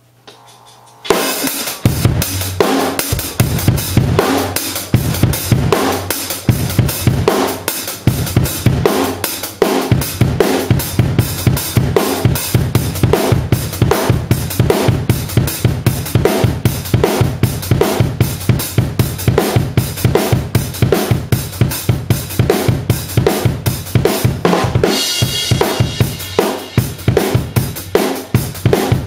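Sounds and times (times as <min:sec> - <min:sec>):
drum kit groove: 0:00.3 - 0:29.0.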